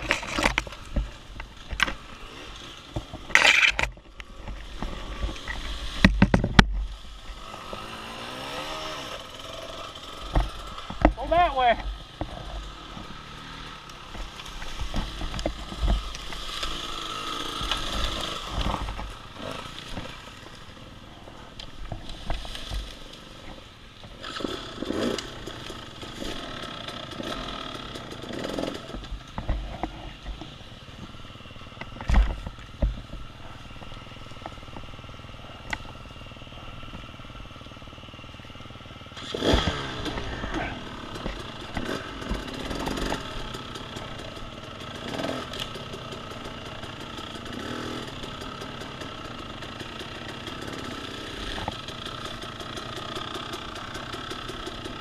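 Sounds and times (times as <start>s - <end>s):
bike knocking and rattling: 0.0s - 55.0s
dirt bike engine running: 0.0s - 55.0s.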